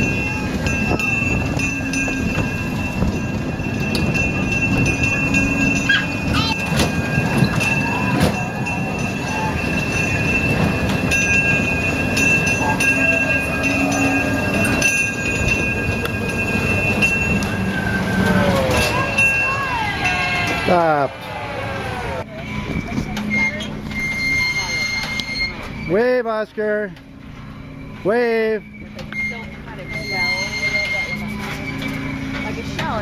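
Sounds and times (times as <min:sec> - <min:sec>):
moving vehicle rumble: 0:00.0 - 0:33.0.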